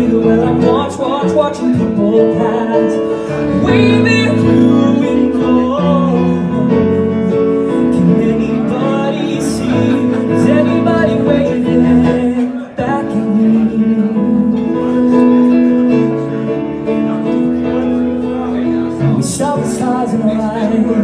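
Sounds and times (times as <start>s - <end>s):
grand piano chords: 0.0s - 21.0s
man singing: 0.0s - 21.0s.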